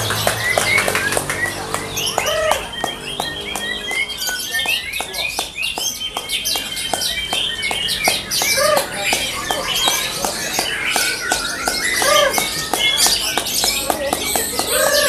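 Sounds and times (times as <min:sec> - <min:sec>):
birds singing whistled phrases: 0:00.0 - 0:15.0
sharp ticks: 0:00.0 - 0:15.0.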